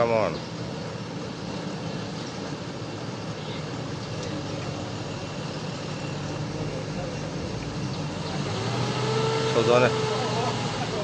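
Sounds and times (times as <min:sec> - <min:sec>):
heavy diesel engines under load: 0:00.0 - 0:11.0.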